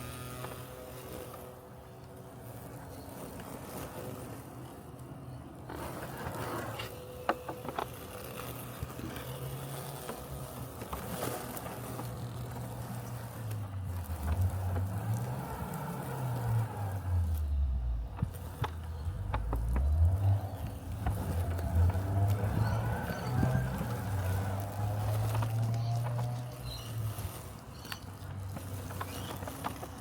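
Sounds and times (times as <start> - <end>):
robotic lawn mower humming: 0.0 - 30.0.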